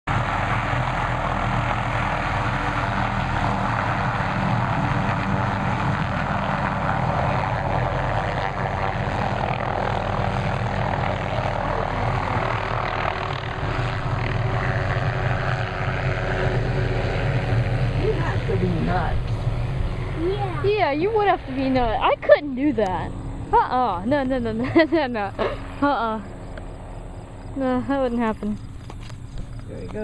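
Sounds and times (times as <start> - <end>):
helicopter engine and rotor: 0.1 - 30.0.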